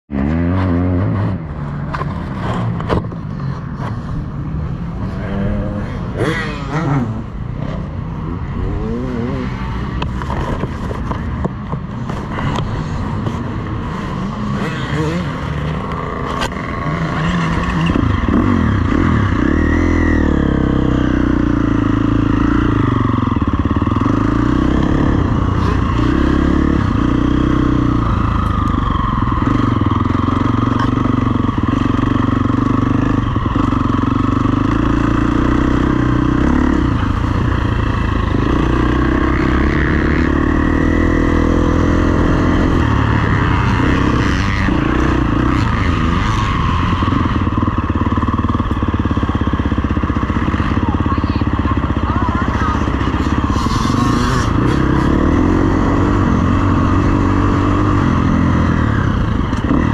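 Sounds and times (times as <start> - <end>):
motocross bike engine revving: 0.1 - 10.8, 12.0 - 59.9.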